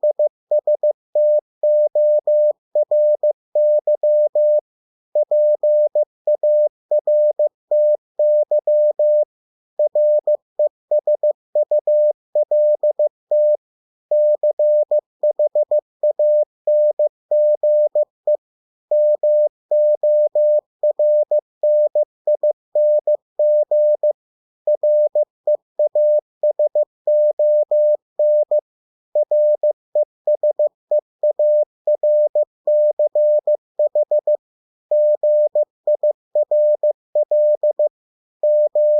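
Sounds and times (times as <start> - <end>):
morse code tone: 0.0 - 4.6, 5.2 - 9.2, 9.8 - 10.3, 11.0 - 18.1, 18.9 - 24.1, 24.7 - 25.2, 25.8 - 28.6, 29.2 - 38.9.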